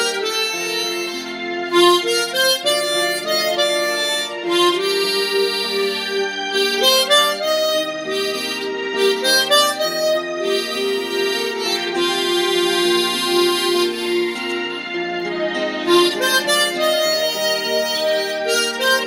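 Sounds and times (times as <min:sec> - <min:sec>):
harmonica slow melody: 0:00.0 - 0:19.0.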